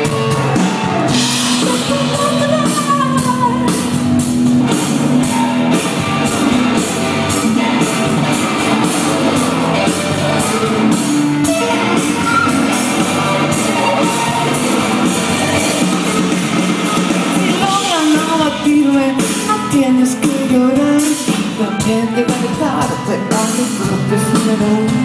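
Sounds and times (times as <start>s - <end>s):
drum kit beat: 0.0s - 25.0s
electric guitar: 0.0s - 25.0s
rock band playing live: 0.0s - 25.0s.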